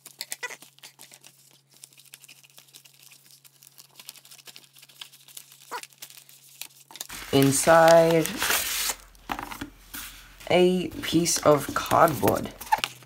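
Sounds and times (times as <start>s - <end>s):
plastic crinkling: 0.0s - 9.3s, 9.9s - 13.0s.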